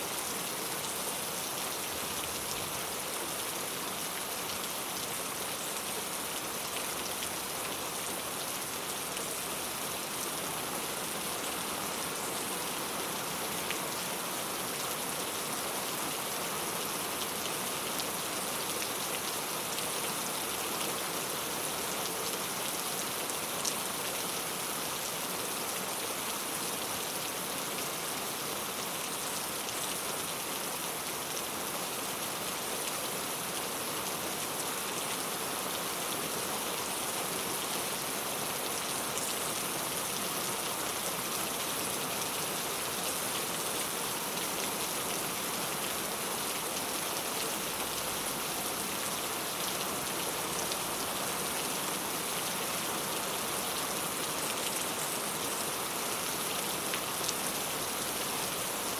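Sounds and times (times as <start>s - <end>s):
rain on a tile roof: 0.0s - 58.9s.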